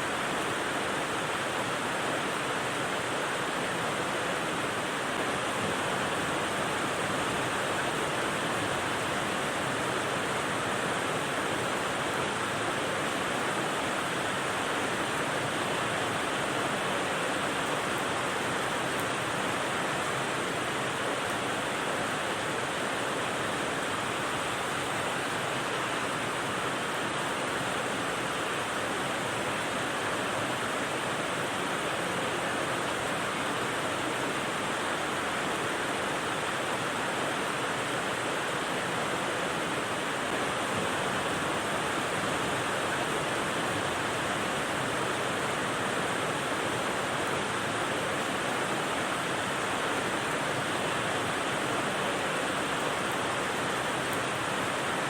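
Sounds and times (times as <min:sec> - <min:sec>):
white-noise rain hiss: 0:00.0 - 0:55.0.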